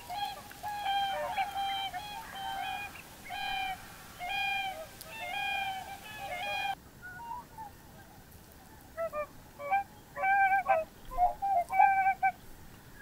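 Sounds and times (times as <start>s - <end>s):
swans honking: 0.0s - 13.0s.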